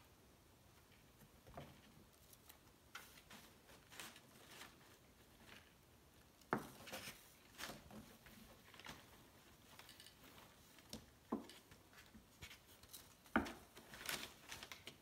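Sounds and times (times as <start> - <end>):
rustling of paper and cardboard: 1.6 - 15.0.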